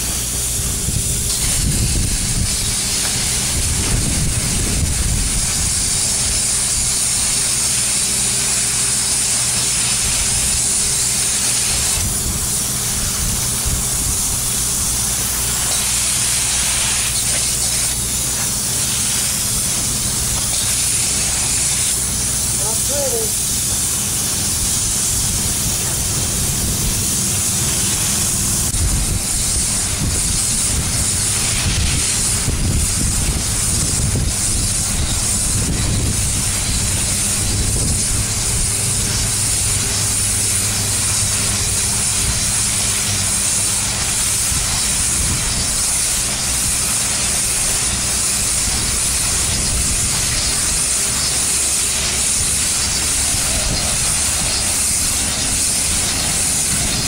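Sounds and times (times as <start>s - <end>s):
spray foam gun hissing: 0.0s - 57.0s.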